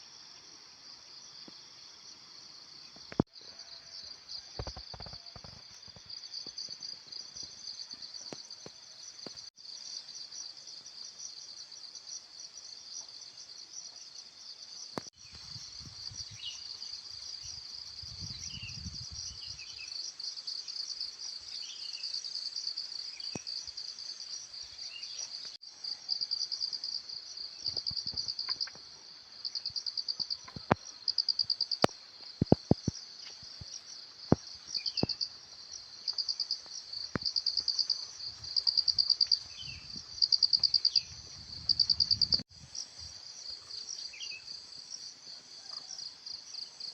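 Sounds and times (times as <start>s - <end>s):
insects chirring: 1.1s - 46.9s.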